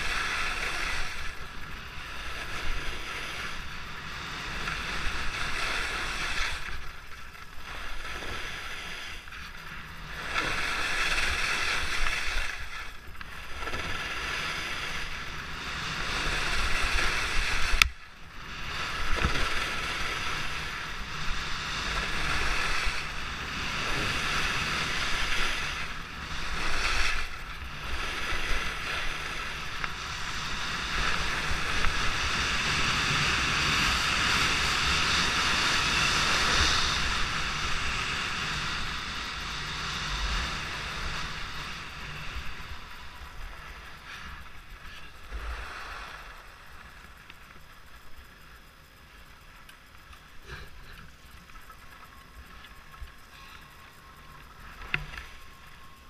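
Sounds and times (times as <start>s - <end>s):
skis hissing over snow: 0.0s - 47.0s.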